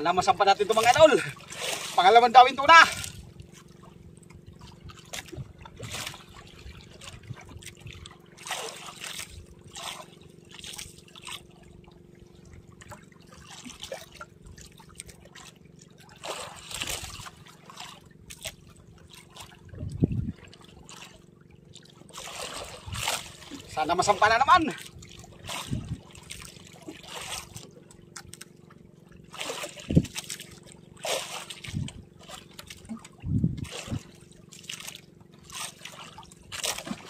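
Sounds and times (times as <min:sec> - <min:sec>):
steady low hum: 0:00.0 - 0:37.0
water splashing against boat: 0:00.0 - 0:37.0.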